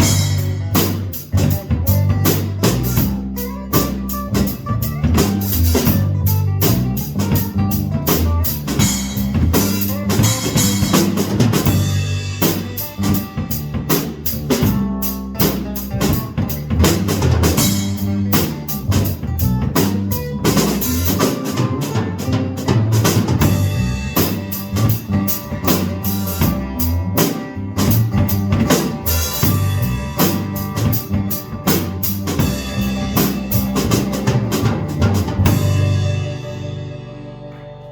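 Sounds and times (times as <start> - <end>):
live band music: 0.0 - 37.9
low bass notes: 0.0 - 37.9.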